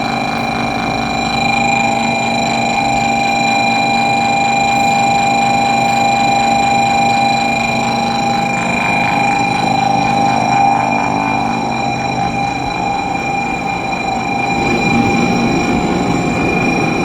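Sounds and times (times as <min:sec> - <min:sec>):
train electrical hum and whine: 0:00.0 - 0:17.0.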